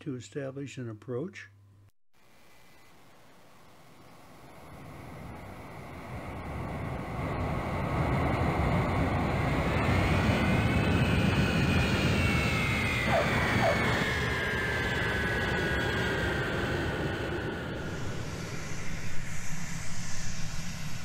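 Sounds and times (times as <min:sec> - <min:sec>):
jet engine high whine: 0:03.1 - 0:21.0
jet airliner flying past: 0:04.1 - 0:21.0.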